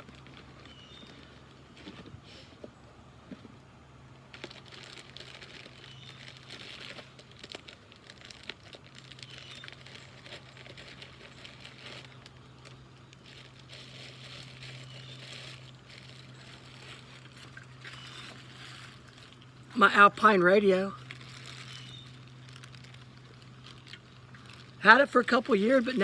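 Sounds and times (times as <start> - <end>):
packaging crinkling and rustling: 0.0 - 2.2, 4.2 - 26.0
steady low hum: 0.0 - 26.0.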